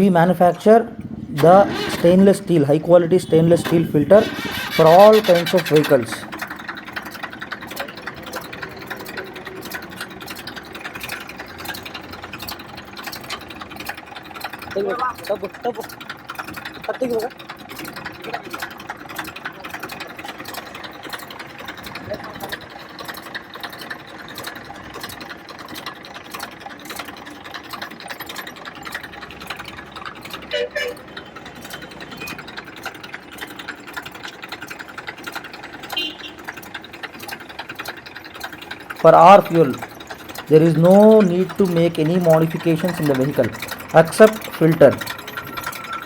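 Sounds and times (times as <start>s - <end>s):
diesel tractor engine idling: 0.0s - 46.0s.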